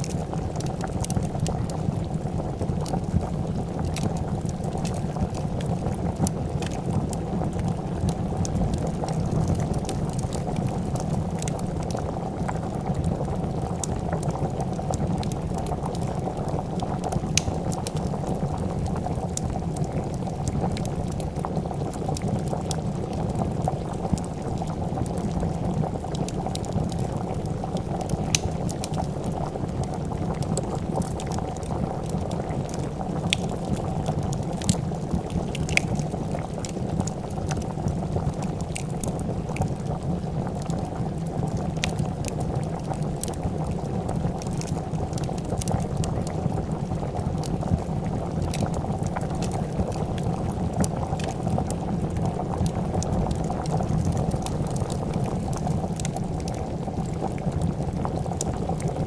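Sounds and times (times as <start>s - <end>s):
soup boiling: 0.0s - 59.0s
wood fire crackling: 0.0s - 59.0s.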